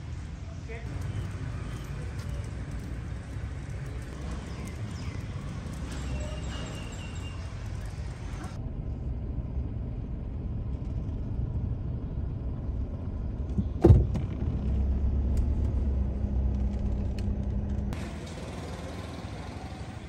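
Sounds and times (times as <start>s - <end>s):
car and motorbike engines: 0.0s - 20.0s
low traffic rumble: 0.0s - 20.0s.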